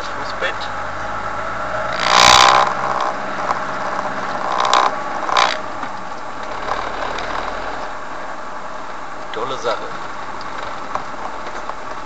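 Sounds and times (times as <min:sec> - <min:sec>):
car driving: 0:00.0 - 0:12.0.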